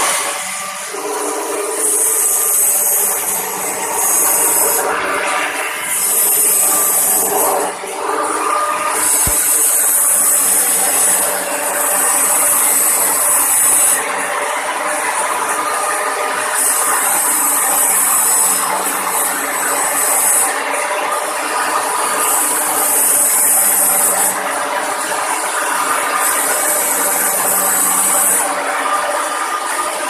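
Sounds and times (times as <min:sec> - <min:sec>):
welding arc buzzing: 0:00.0 - 0:30.0.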